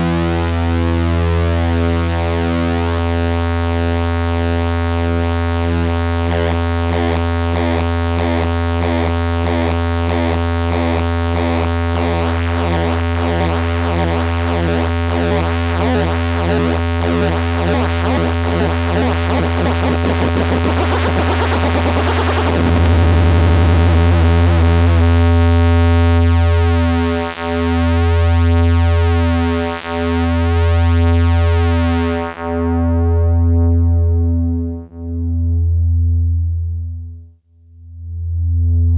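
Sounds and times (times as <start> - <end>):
synthesizer low droning note: 0.0 - 38.9.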